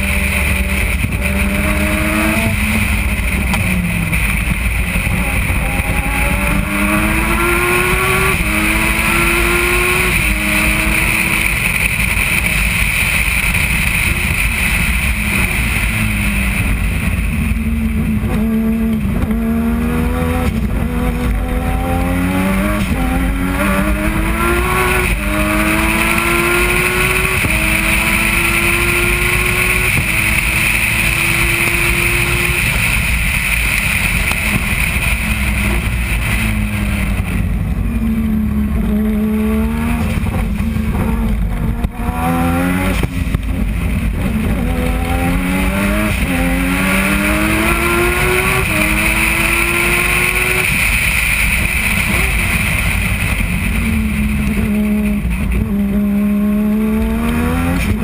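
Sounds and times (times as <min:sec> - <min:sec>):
race car rotary engine revving: 0:00.0 - 0:58.0.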